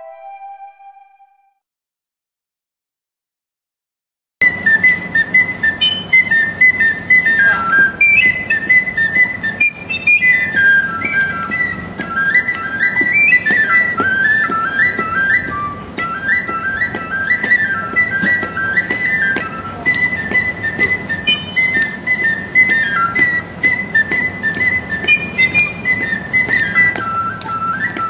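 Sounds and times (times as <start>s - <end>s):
lively instrumental music: 0.0s - 1.4s, 4.4s - 28.0s.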